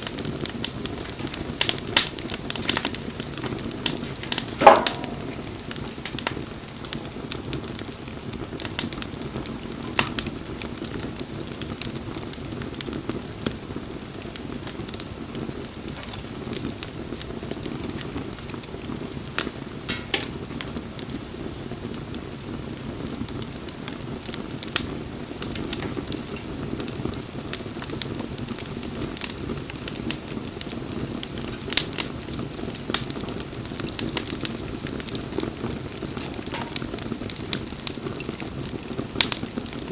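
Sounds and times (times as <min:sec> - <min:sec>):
campfire low rush: 0:00.0 - 0:39.9
fire crackling and popping: 0:00.0 - 0:39.9.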